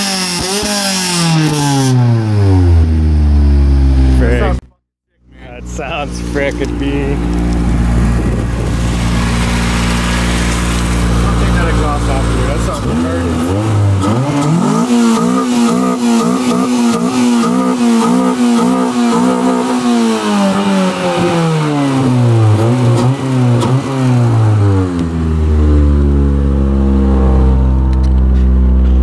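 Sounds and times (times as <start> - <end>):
car engine revving and idling: 0.0 - 29.0.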